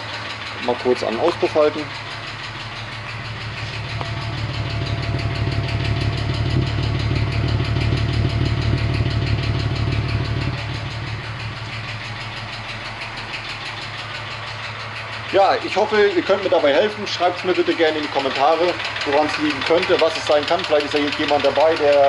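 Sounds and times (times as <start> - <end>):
car engine idling unevenly: 0.0 - 22.0
exhaust misfiring: 0.0 - 22.0.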